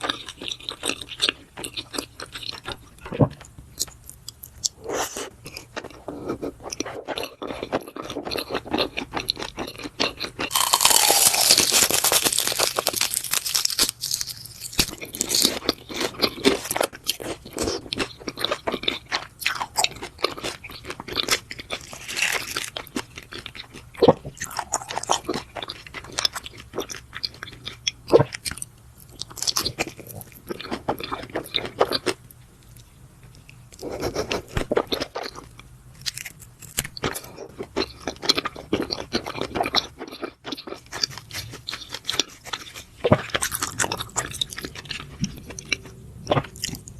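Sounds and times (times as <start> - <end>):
wet chewing and crunching: 0.0 - 46.9.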